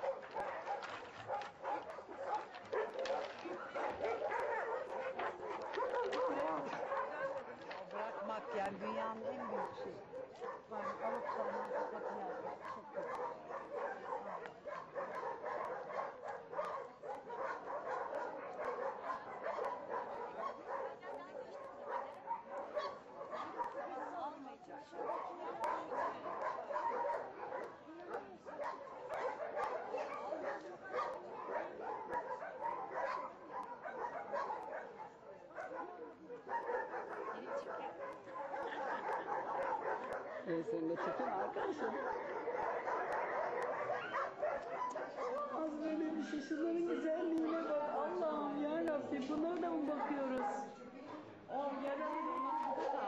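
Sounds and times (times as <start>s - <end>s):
dogs barking and yapping: 0.0s - 53.0s.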